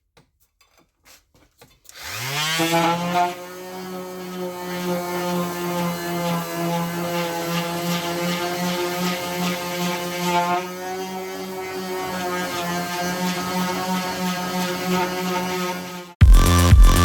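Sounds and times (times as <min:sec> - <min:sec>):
orbital sander running: 0:02.0 - 0:16.7.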